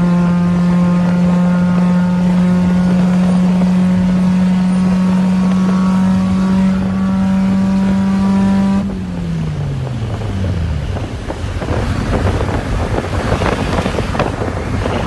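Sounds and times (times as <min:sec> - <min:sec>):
car engine droning: 0:00.0 - 0:15.0
wind and road noise: 0:00.0 - 0:15.0.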